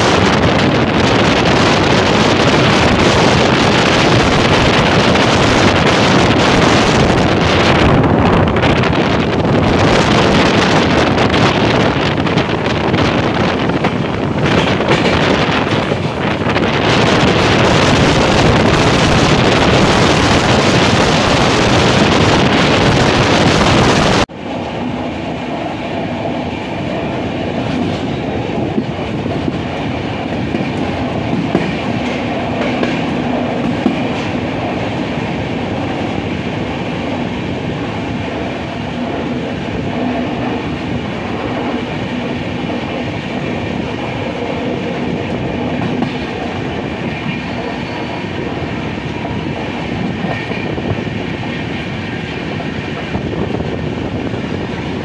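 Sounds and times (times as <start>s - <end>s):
train wheels rumbling on rails: 0.0s - 55.0s
wind blasting the microphone: 0.0s - 55.0s.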